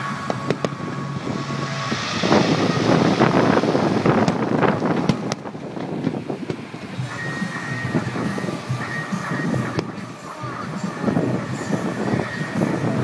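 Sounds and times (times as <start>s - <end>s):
fireworks bangs: 0.0s - 12.6s
fireworks crackling: 0.0s - 13.0s.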